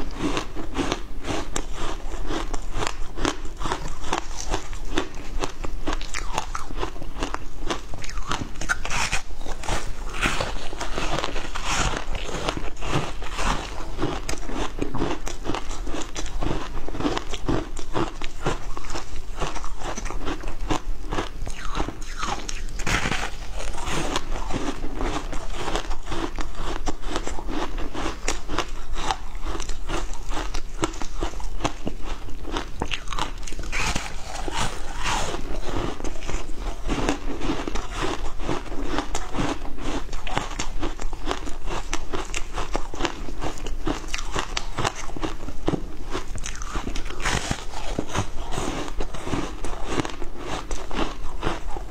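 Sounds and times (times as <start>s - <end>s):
crunching frozen ice: 0.0s - 51.9s.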